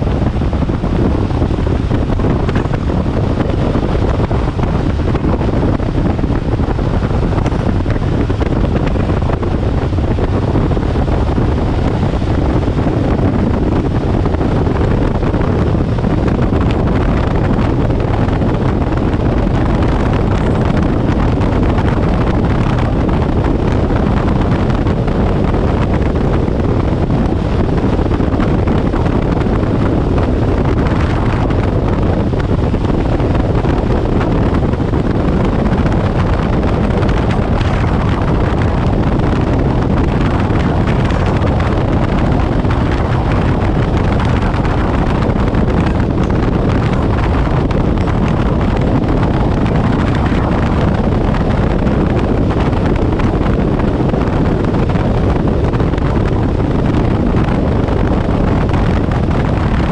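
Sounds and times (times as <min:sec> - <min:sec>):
outboard motor at high speed: 0:00.0 - 0:59.9
wind buffeting microphone: 0:00.0 - 0:59.9.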